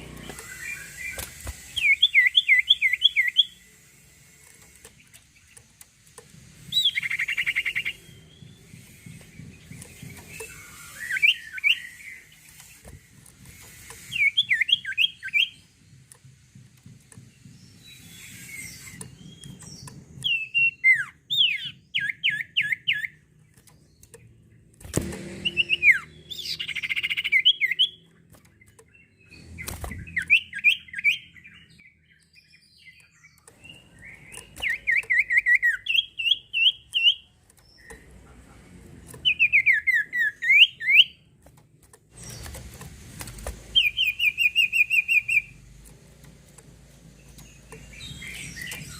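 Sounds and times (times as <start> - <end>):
songbird chirping: 0.0 - 48.9.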